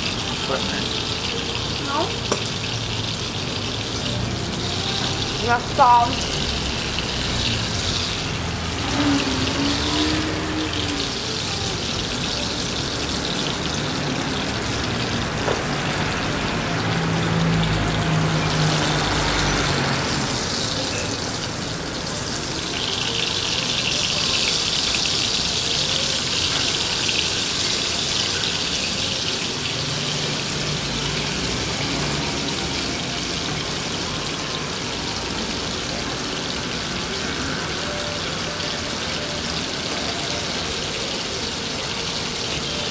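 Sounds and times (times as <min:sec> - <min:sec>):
steak sizzling in a frying pan: 0:00.0 - 0:42.9.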